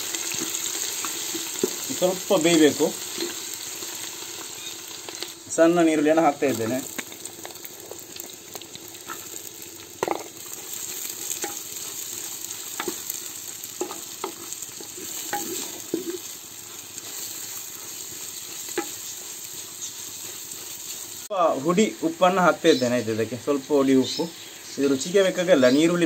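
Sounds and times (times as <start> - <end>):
shallots sizzling in oil: 0.0 - 26.0.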